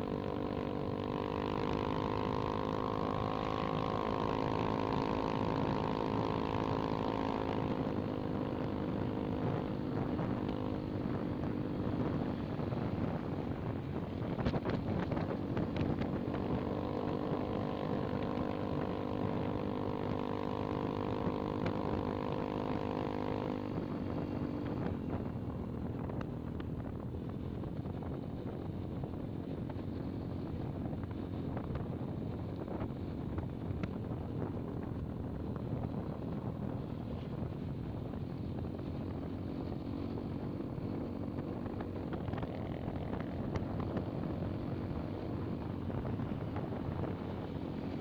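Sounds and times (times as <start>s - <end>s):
motorcycle engine running: 0.0s - 48.0s
road noise: 0.0s - 48.0s
wind noise on microphone: 4.2s - 19.9s, 20.7s - 48.0s.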